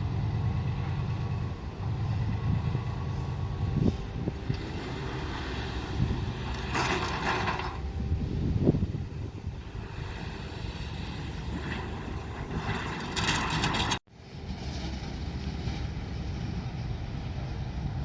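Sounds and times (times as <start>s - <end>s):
diesel rail engine rumbling: 0.0s - 18.0s.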